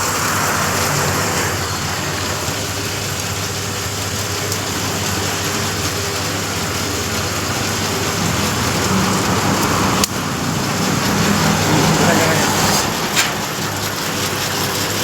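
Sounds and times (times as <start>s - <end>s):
skewer machine motor hum and hiss: 0.0s - 15.0s.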